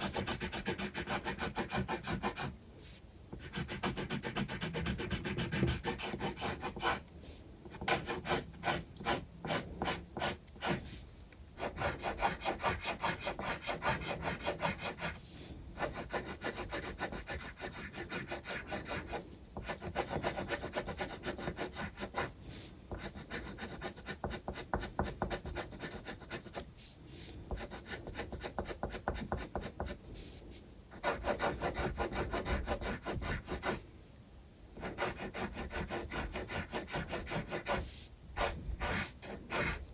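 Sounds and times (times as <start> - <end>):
pencil scratching on paper: 0.0 - 2.6, 3.3 - 7.0, 7.7 - 10.9, 11.6 - 15.2, 15.8 - 26.6, 27.5 - 30.0, 30.9 - 33.8, 34.8 - 39.9.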